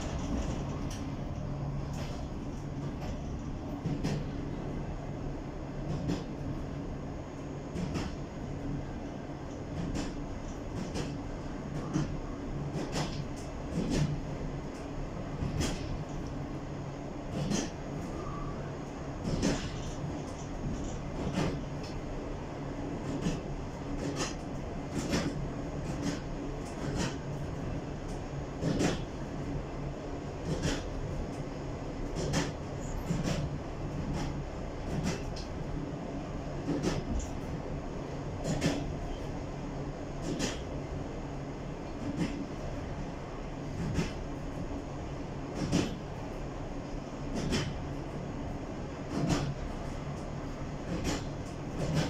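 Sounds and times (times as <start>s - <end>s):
train rumbling with low hum: 0.0s - 52.0s.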